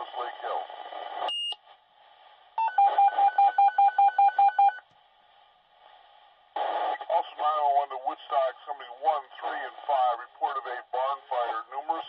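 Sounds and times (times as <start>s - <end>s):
faint radio hiss: 0.0s - 3.3s, 4.8s - 12.0s.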